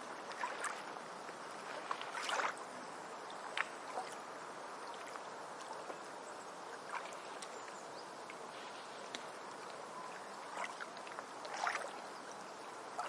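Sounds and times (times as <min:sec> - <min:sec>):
shallow water washing on beach: 0:00.0 - 0:13.0
small water splashes and trickles: 0:00.0 - 0:13.0.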